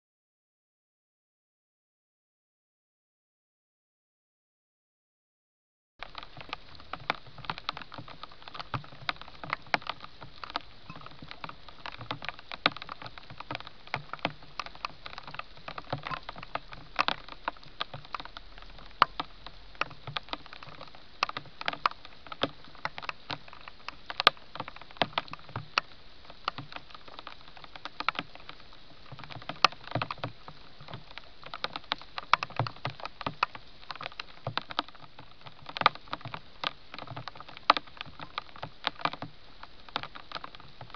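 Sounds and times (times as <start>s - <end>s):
hedgehog chewing and rustling: 6.0s - 40.9s.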